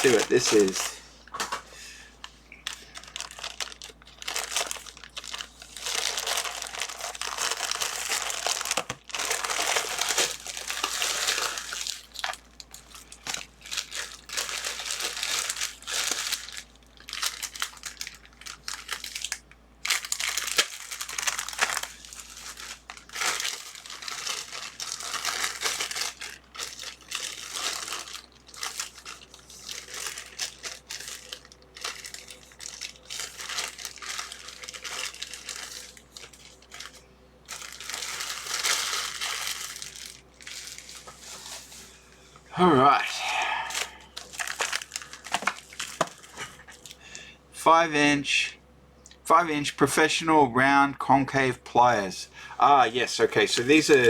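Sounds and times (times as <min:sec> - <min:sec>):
plastic packaging crinkling: 0:00.0 - 0:42.0, 0:43.0 - 0:47.1, 0:52.8 - 0:54.0.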